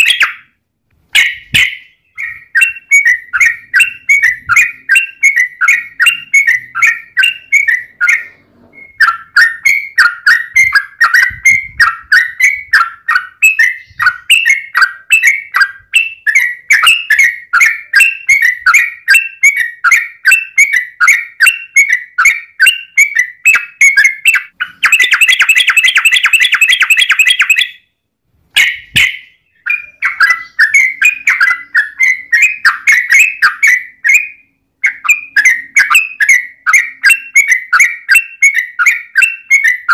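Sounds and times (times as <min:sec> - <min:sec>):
bird chattering song: 0:00.0 - 0:28.0, 0:28.6 - 0:39.9
bird fast dense trill: 0:00.0 - 0:28.0, 0:28.6 - 0:39.9.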